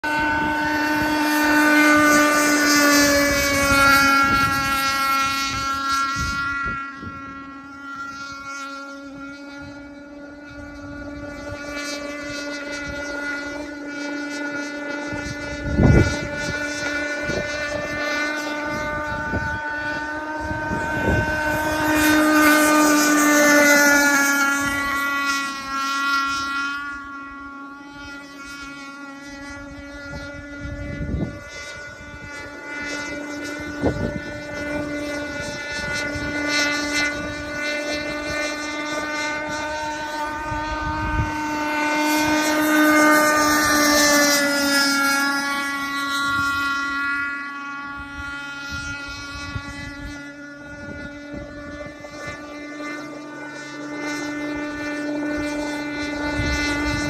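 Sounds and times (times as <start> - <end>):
model speedboat motor buzzing: 0.0 - 57.0
wind buffeting microphone: 0.0 - 57.0.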